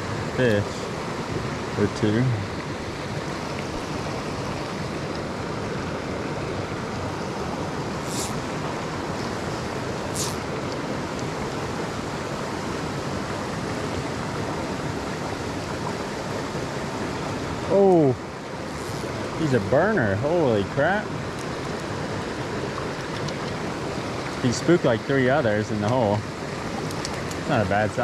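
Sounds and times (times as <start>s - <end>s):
mountain creek rushing over rocks: 0.0s - 28.0s.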